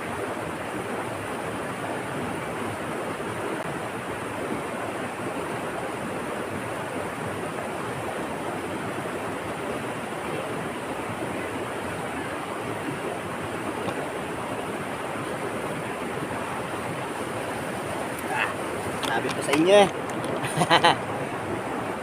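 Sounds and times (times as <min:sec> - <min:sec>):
rushing water: 0:00.0 - 0:22.0.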